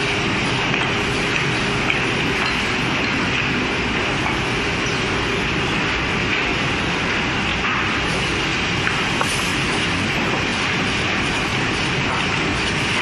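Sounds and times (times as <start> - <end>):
woodworking machinery running: 0.0 - 13.0.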